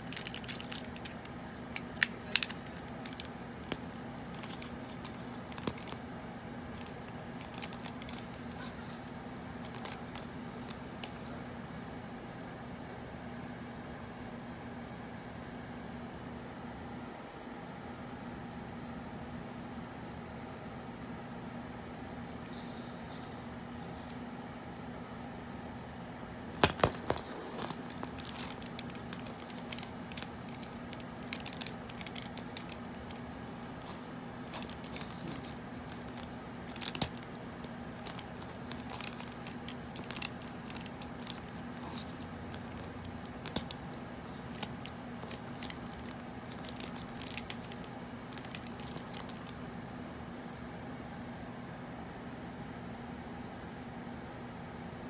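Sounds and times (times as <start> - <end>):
low hum with hiss: 0.0 - 55.0.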